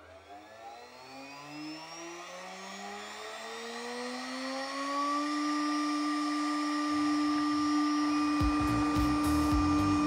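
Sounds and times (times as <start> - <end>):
router spindle whine rising: 0.0 - 10.0.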